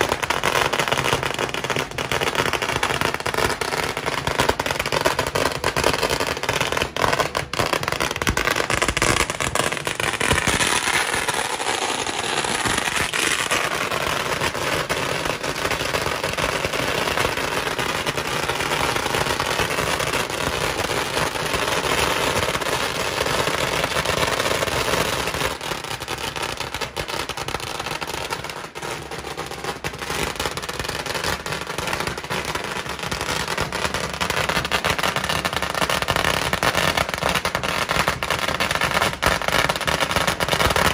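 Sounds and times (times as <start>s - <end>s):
firecrackers crackling: 0.0s - 40.9s.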